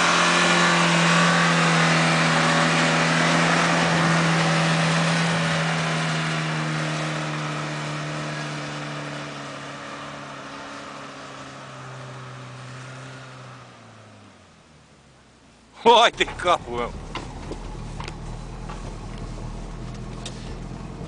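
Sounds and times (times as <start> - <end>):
off-road vehicle engine driving away: 0.0 - 21.0.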